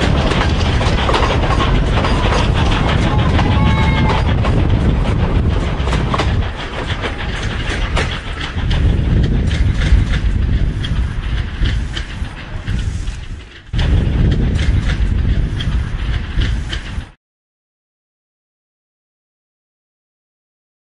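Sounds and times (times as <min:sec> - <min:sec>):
steam train rolling past: 0:00.0 - 0:17.2
wheels clattering over rail joints: 0:00.0 - 0:17.2.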